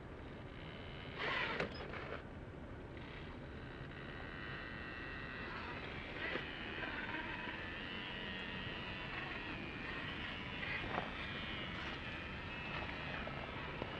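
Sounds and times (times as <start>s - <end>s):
small electric motor whining: 0.2s - 2.2s, 3.0s - 13.9s.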